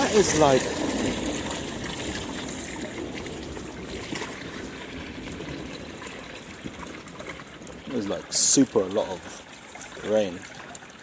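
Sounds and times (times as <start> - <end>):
heavy rain pouring: 0.0 - 10.8.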